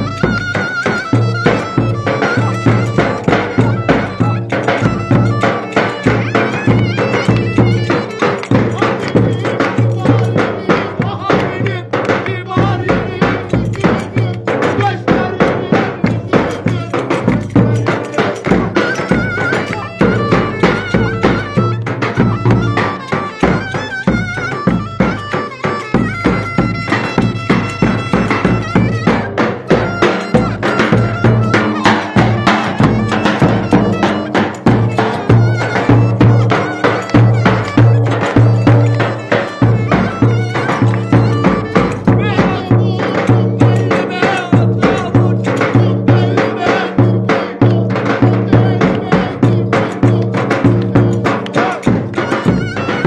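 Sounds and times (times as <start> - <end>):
folk dance music by a band: 0.0 - 53.0.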